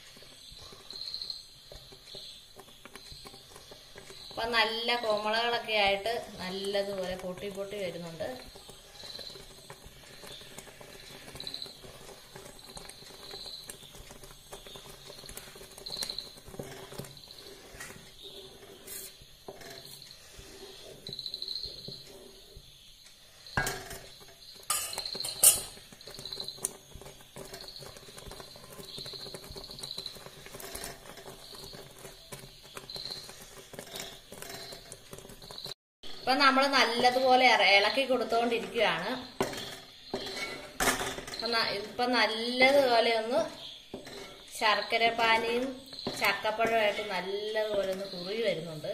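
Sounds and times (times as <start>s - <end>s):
thick mixture bubbling in a pot: 0.0s - 48.9s.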